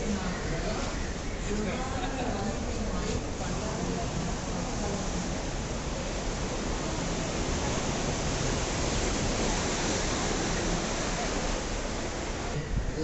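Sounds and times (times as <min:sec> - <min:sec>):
waves breaking on rocks: 0:00.0 - 0:13.0.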